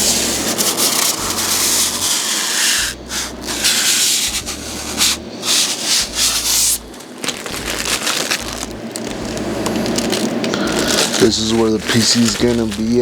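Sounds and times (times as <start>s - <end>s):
rough rubbing and scraping: 0.0s - 13.0s.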